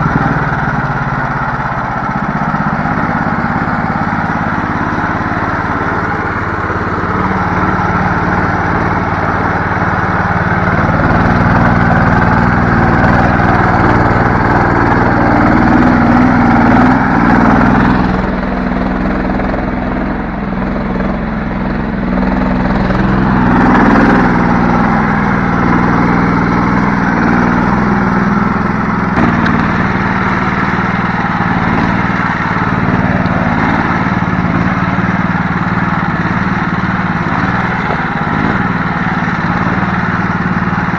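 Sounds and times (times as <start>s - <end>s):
small vehicle engine running: 0.0s - 40.9s.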